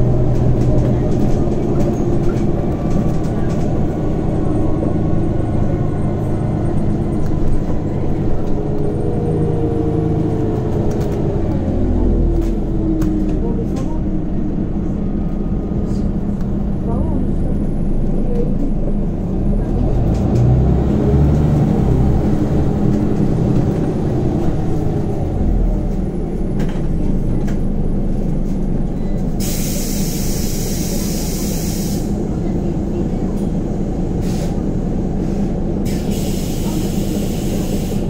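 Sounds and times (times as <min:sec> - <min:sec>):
bus diesel engine drone: 0:00.0 - 0:38.0.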